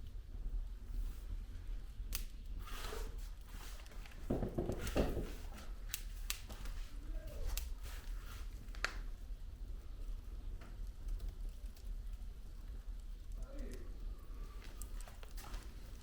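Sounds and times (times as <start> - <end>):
burning logs crackling and popping: 0.0 - 16.0
flames rumbling: 0.0 - 16.0.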